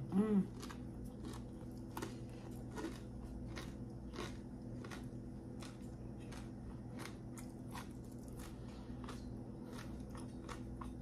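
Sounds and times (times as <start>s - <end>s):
mouth chewing crispy food: 0.0s - 11.0s
steady low hum: 0.0s - 11.0s.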